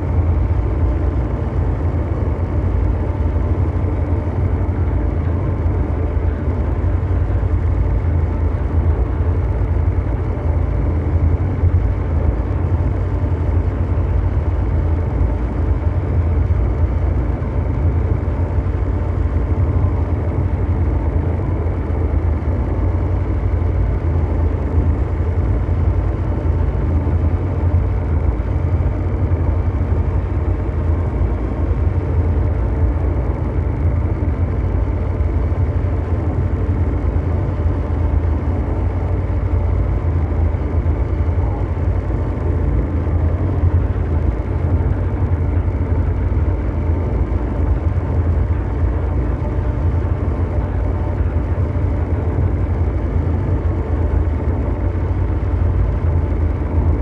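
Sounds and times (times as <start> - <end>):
deep mechanical rumble: 0.0 - 57.0
faint steady hum tones: 0.0 - 57.0.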